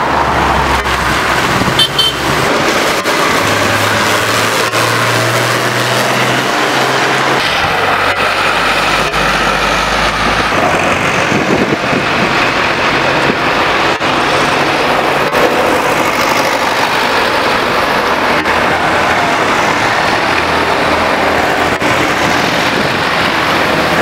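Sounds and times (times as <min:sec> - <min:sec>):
diesel engines driving past: 0:00.0 - 0:24.0.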